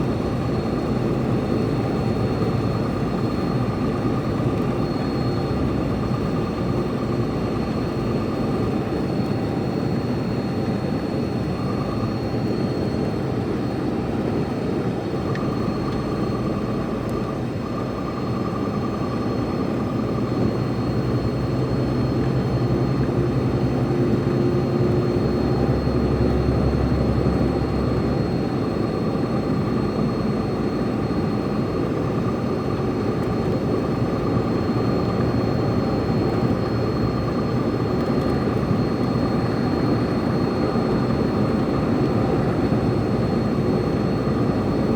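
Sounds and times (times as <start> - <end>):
truck engine and road noise: 0.0 - 44.9.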